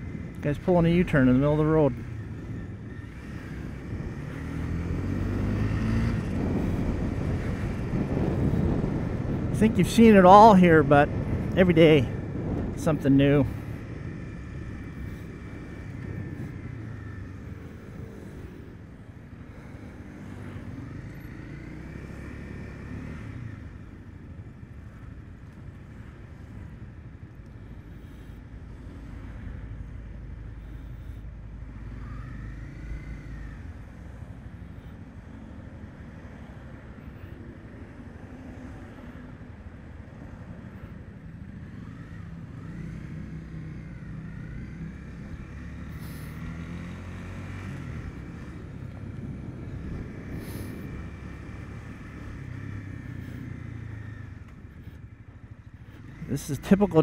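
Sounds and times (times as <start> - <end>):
motorcycle engine revving: 0.0 - 26.9, 27.6 - 36.6, 40.1 - 57.0
road noise rumble: 0.0 - 57.0.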